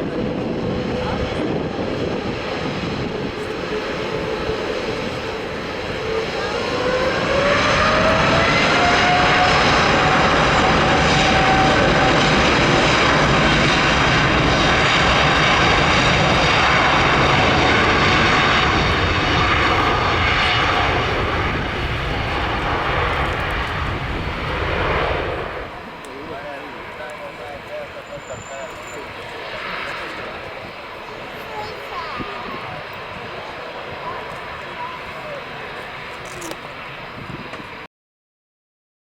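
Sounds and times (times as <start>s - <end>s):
jet airliner taking off: 0.0s - 37.9s.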